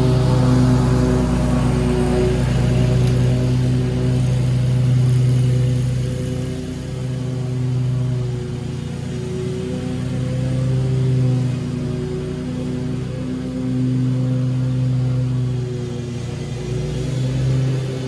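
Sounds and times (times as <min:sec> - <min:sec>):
mower engine droning: 0:00.0 - 0:18.0.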